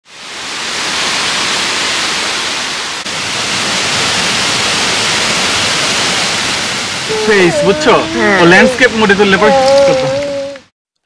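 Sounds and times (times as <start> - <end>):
waterfall rushing: 0.1 - 10.6.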